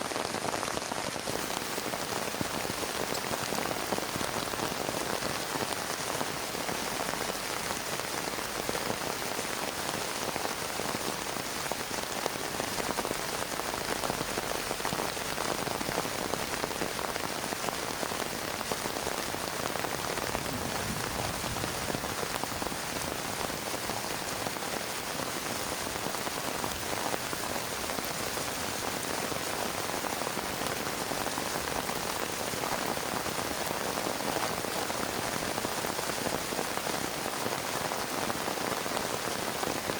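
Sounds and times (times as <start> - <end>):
heavy rain on plastic tarp: 0.0 - 39.9.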